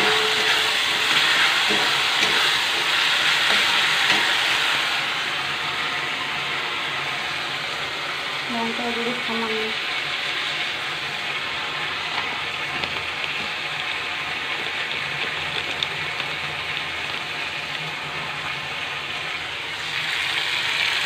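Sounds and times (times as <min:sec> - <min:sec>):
spices sizzling in oil: 0:00.0 - 0:21.0.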